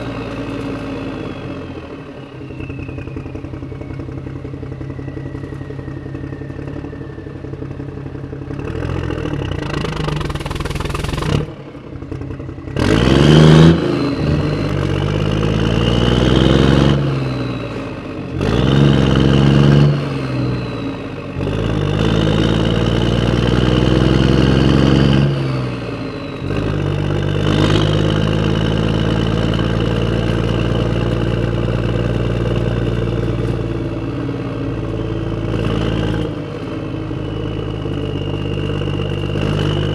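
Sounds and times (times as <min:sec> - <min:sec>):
engine revving: 0:00.0 - 0:39.9.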